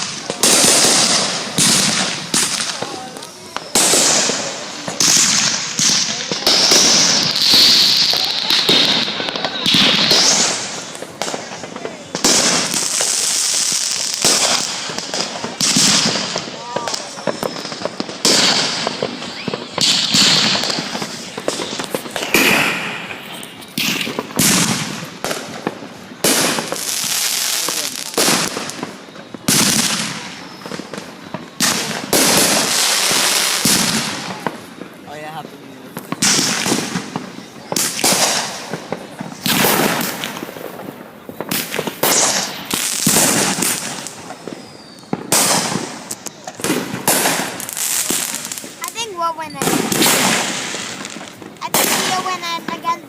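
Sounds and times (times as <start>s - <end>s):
fireworks crackling: 0.0s - 53.0s
fireworks exploding: 0.0s - 53.0s.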